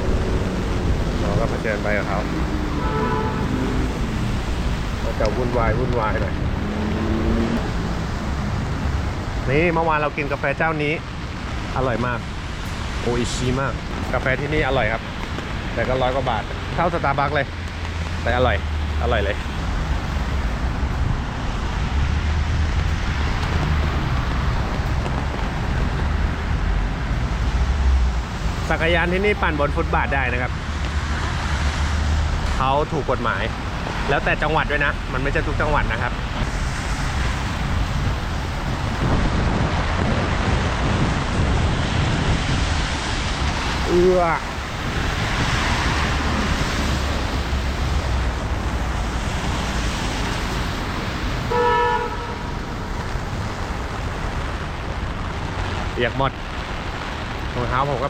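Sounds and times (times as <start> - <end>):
gusting wind on microphone: 0.0 - 58.0
heavy rain hissing: 0.0 - 58.0.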